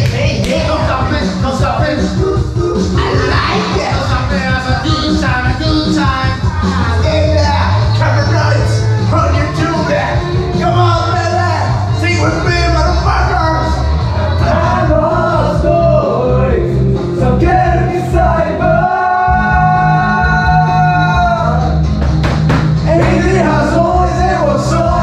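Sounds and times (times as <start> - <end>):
karaoke backing track: 0.0 - 25.0
people singing into microphones: 1.0 - 21.9, 22.8 - 25.0.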